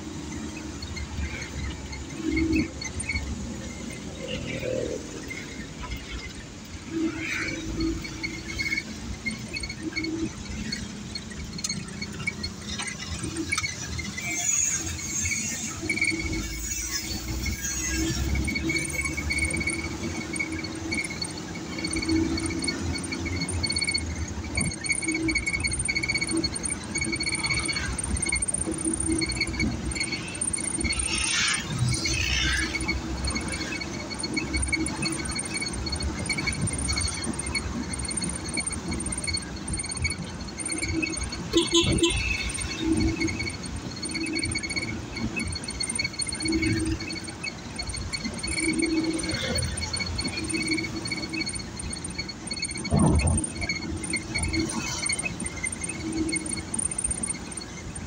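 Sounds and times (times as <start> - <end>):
engine and road rumble: 0.0 - 58.0
faint rapid high ticking: 0.0 - 58.0
rapid high-pitched chirps: 0.0 - 58.0.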